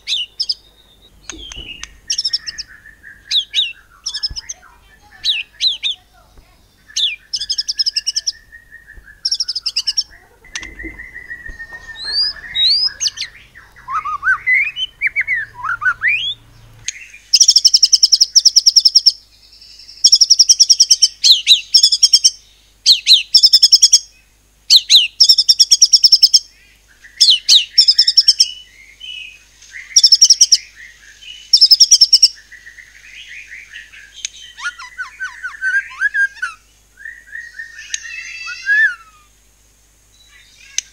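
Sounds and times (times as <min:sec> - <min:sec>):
songbird singing whistled phrases: 0:00.0 - 0:24.1, 0:24.7 - 0:26.4, 0:27.0 - 0:39.3.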